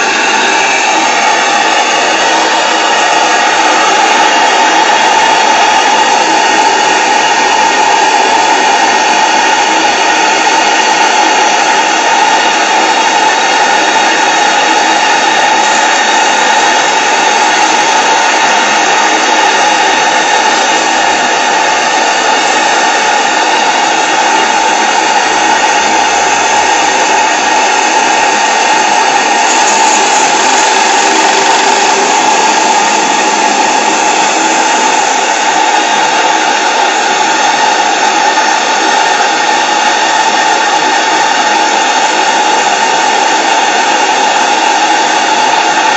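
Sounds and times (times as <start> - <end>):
model steam engine hissing buzz: 0.0 - 45.9.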